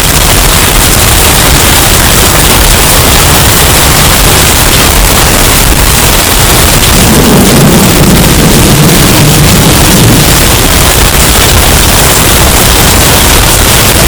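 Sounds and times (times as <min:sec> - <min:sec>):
deep rumble: 0:00.0 - 0:14.0
distorted hurricane wind: 0:00.0 - 0:14.0.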